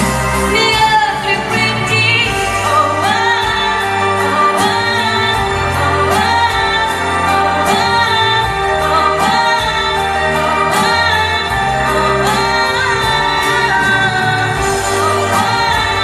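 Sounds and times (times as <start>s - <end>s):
musical accompaniment: 0.0s - 16.0s
woman singing: 0.0s - 16.0s.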